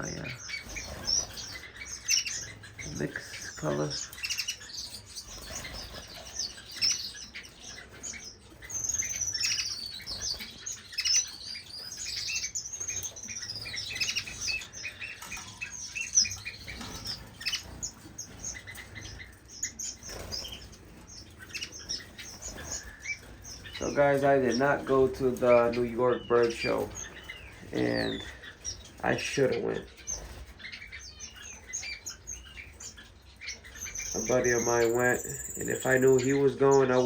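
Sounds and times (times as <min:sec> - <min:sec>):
wings fluttering: 0:00.0 - 0:11.0, 0:12.8 - 0:36.6
cage birds chirping: 0:00.0 - 0:37.0.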